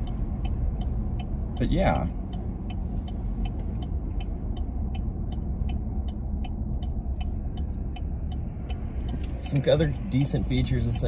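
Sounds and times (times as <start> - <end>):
light regular ticking: 0.0 - 11.0
road and drivetrain rumble: 0.0 - 11.0.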